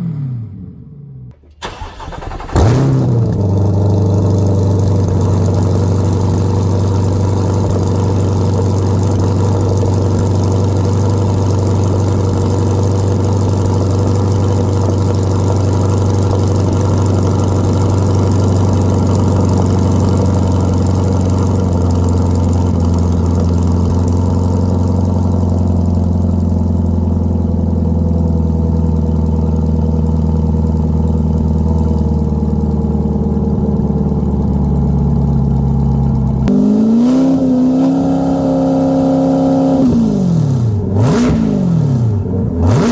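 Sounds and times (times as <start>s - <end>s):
car engine idling: 1.3s - 42.9s.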